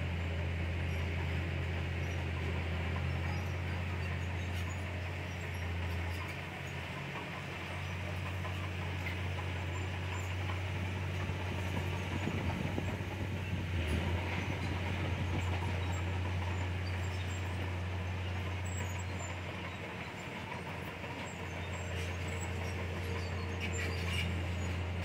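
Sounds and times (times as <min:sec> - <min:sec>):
bulldozer diesel engine droning: 0:00.0 - 0:25.0.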